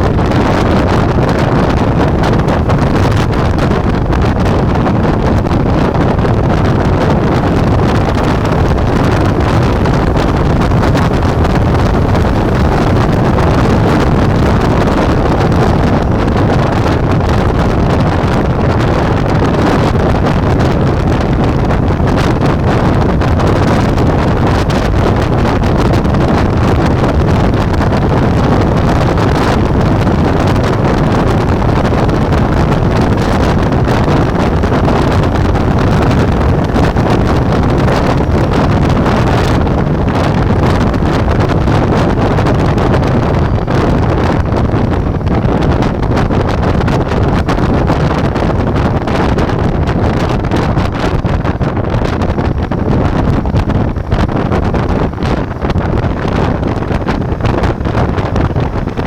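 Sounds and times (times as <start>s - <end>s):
wind rush on microphone: 0.0s - 59.0s.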